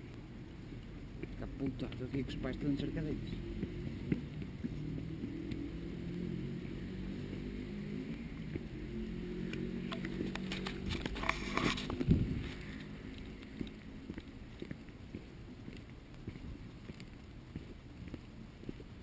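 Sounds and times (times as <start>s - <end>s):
footsteps on stone: 0.0s - 19.0s.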